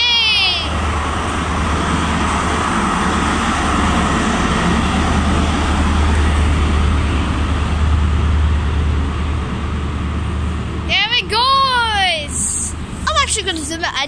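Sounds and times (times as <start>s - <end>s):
diesel engine drone: 0.0s - 14.0s
train wheels rumbling on rail: 0.0s - 14.0s.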